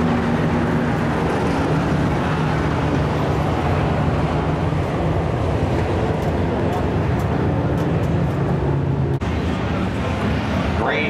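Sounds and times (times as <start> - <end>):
race truck engines: 0.0 - 11.0
track and grandstand noise: 0.0 - 11.0.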